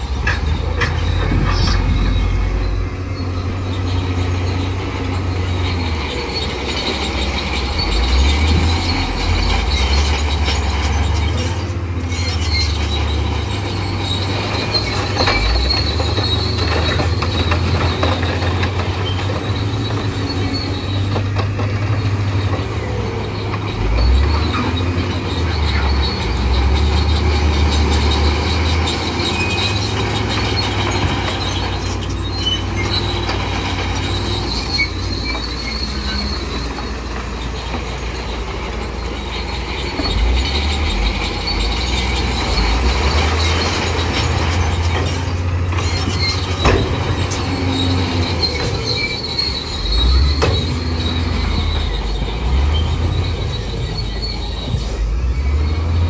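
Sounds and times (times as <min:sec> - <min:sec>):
bulldozer engine rumble: 0:00.0 - 0:56.0
steel tracks squealing and clanking: 0:00.0 - 0:56.0.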